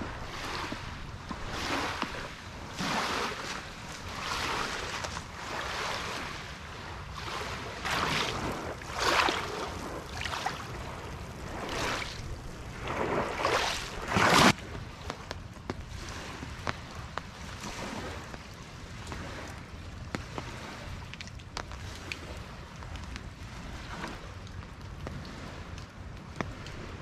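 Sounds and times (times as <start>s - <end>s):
waves washing onto pebble beach: 0.0s - 27.0s.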